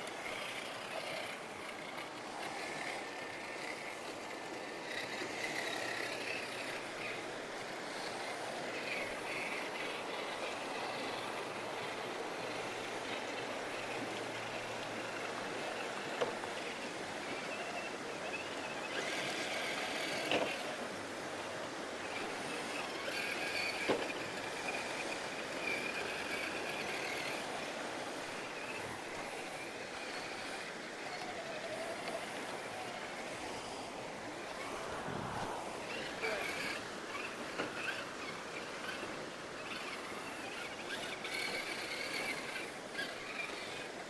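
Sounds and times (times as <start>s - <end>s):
electric motor whining: 0.0s - 44.0s.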